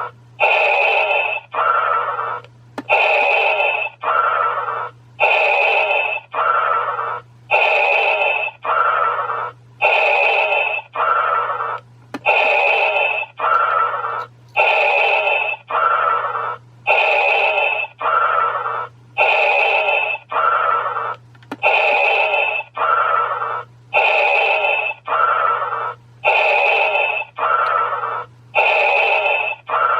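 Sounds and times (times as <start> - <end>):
electronic breathing effect: 0.0 - 29.9
low steady hum: 0.0 - 29.9.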